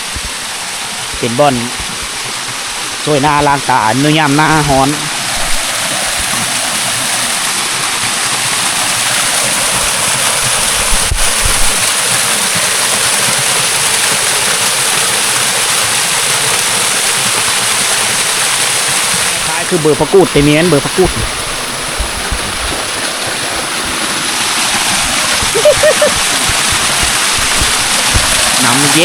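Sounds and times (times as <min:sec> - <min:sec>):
waterfall pouring and splashing: 0:00.0 - 0:29.0.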